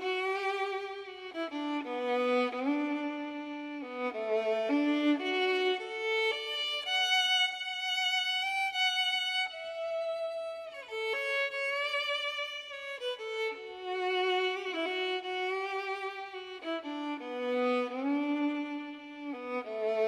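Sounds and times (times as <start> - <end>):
slow bowed fiddle melody: 0.0 - 20.0.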